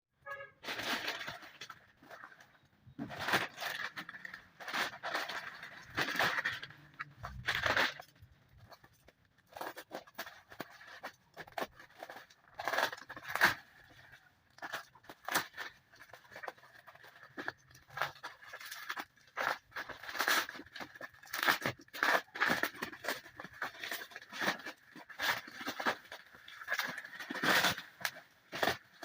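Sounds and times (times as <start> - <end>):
packaging crinkling and tearing: 0.6 - 29.0.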